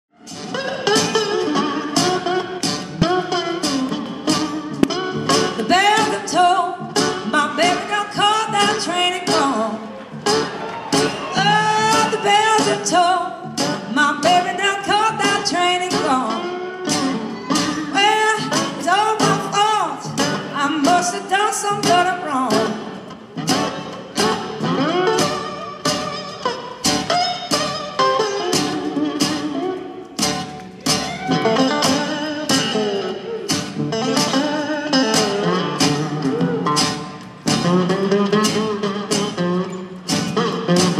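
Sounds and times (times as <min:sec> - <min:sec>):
acoustic blues band playing: 0:00.1 - 0:40.9
acoustic guitar bending notes: 0:00.1 - 0:40.9.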